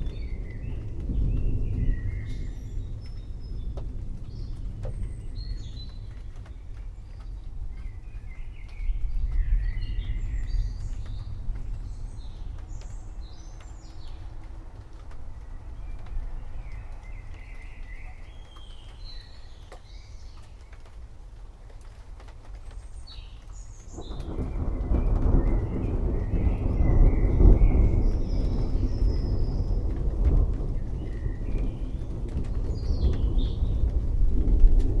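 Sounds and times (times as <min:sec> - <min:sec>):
birds chirping: 0:00.0 - 0:21.0, 0:21.7 - 0:34.0
distant thunder rumble: 0:00.0 - 0:35.0.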